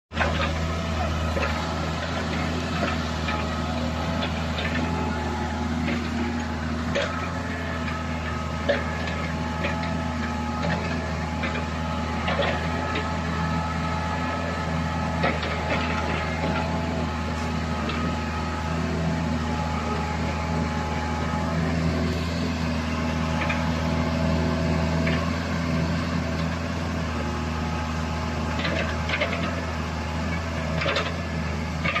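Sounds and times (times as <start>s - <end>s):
excavator engine humming: 0.1s - 32.0s.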